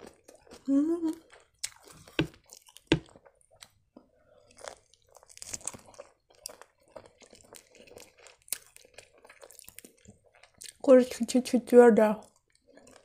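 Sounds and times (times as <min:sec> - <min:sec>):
crunching and chewing crust: 0:00.0 - 0:10.8, 0:12.2 - 0:13.0.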